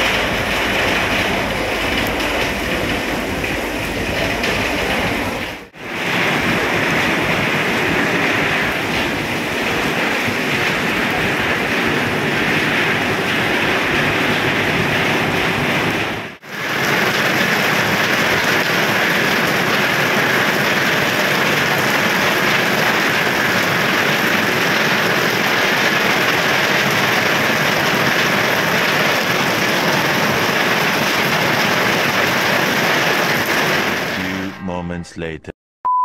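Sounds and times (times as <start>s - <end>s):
steady rain falling: 0.0s - 34.4s.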